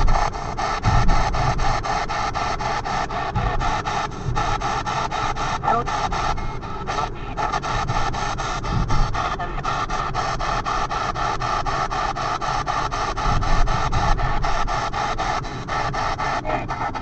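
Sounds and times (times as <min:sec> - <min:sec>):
radio static sweeping: 0:00.0 - 0:11.6, 0:12.4 - 0:17.0.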